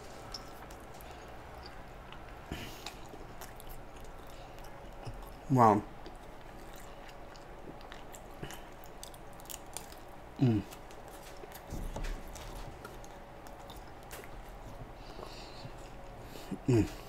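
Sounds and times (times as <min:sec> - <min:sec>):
man chewing: 0:00.0 - 0:17.0.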